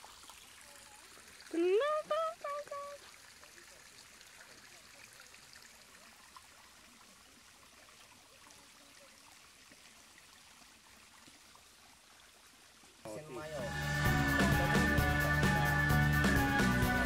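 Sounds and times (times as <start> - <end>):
distant running water: 0.0 - 17.0.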